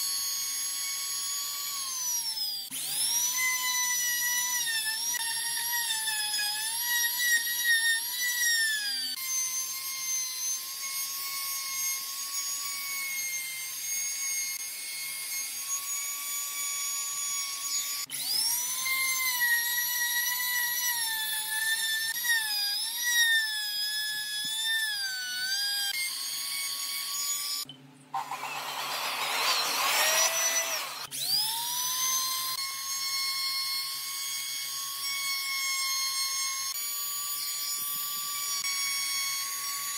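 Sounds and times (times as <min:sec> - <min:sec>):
trim router whining: 0:00.0 - 0:39.9.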